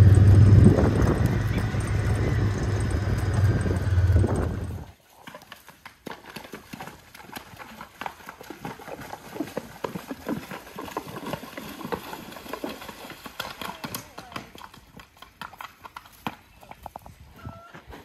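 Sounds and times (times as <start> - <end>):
horse hooves splashing through creek: 0.0 - 18.0.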